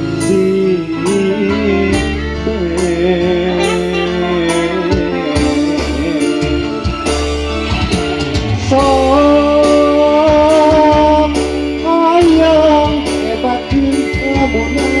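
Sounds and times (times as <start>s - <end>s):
man singing into microphone: 0.0s - 7.2s, 8.6s - 15.0s
amplified pop band: 0.0s - 15.0s.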